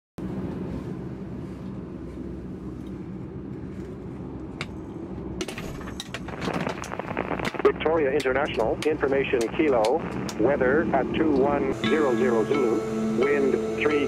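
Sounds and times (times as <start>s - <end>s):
light aircraft engine hum: 0.2s - 14.0s.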